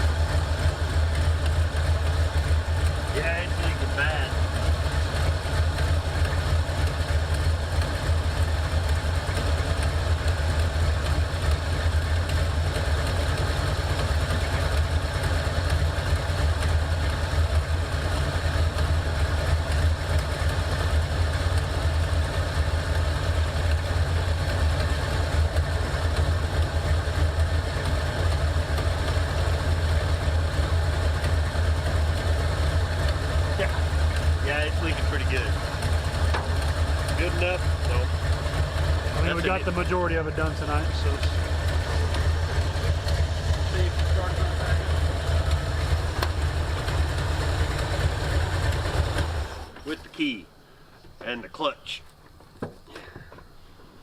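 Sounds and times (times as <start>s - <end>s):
exhaust leak ticking: 0.0s - 49.5s
car engine idling: 0.0s - 54.0s.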